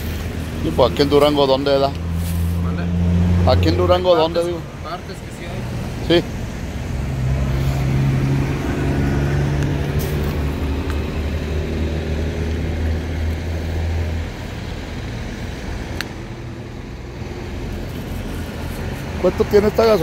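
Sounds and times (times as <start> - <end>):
traffic hum: 0.0 - 20.0
vehicle engine droning: 0.0 - 20.0.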